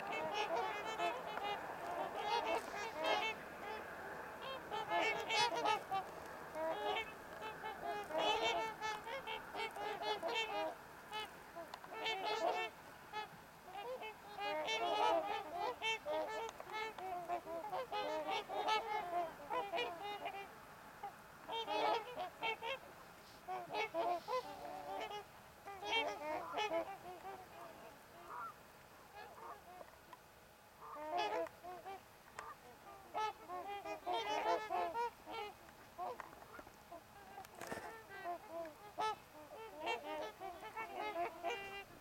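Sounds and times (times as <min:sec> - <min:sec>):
swans calling: 0:00.0 - 0:30.2, 0:30.8 - 0:42.0.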